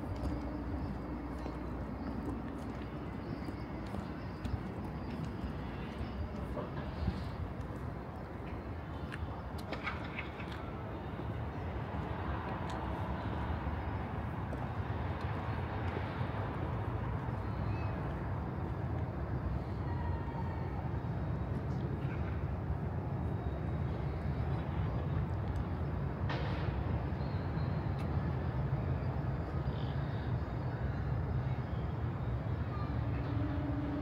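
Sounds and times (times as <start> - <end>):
distant traffic rumble: 0.0 - 29.4.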